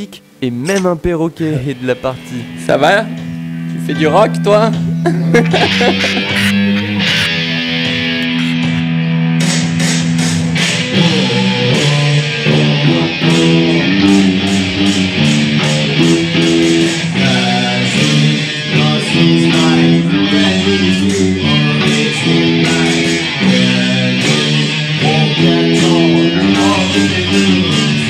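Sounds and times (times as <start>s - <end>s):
bass guitar: 0.0s - 28.0s
electric guitar rock riff: 1.5s - 28.0s.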